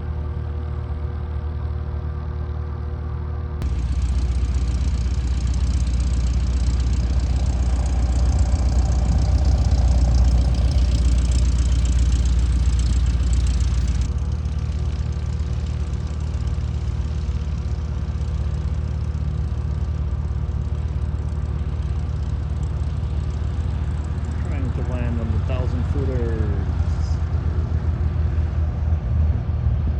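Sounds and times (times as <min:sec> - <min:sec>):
engine running: 0:00.0 - 0:29.9.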